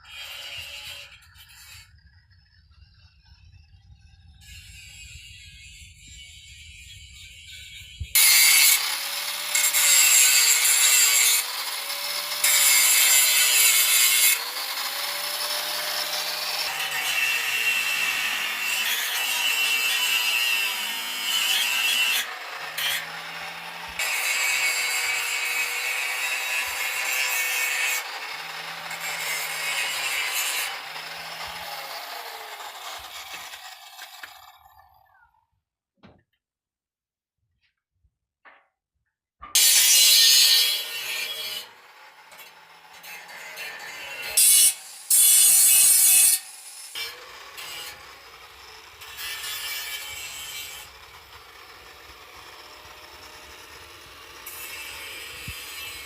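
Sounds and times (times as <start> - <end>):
angle grinder cutting steel: 0.0 - 2.0, 4.4 - 35.2, 39.5 - 56.0.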